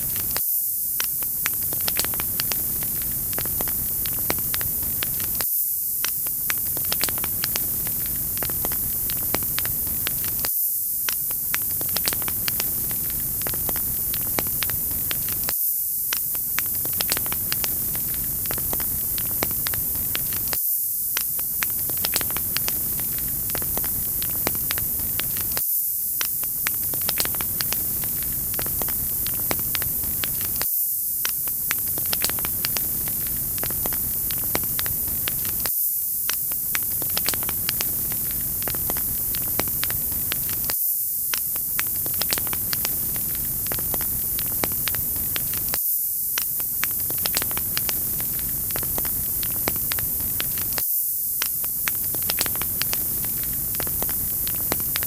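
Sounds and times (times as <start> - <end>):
crackling wood fire: 0.0 - 0.4, 1.0 - 50.8, 51.4 - 55.0.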